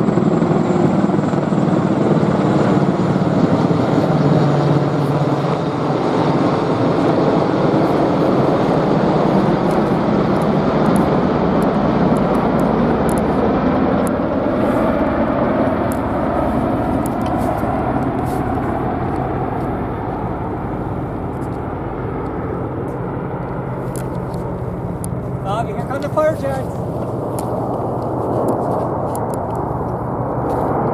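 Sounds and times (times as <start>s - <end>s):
military aircraft flying overhead: 0.0s - 30.9s.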